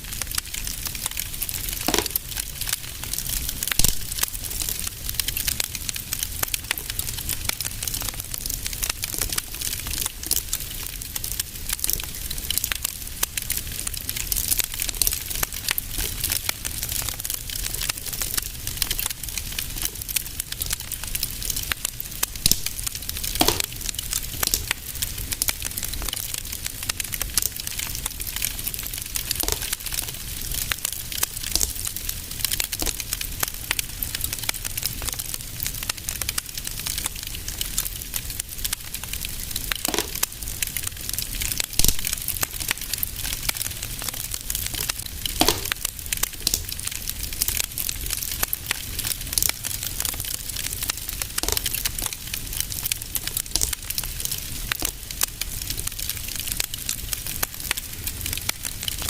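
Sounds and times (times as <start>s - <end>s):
fireplace fire crackling: 0.0s - 59.0s
fire pops: 0.1s - 59.0s.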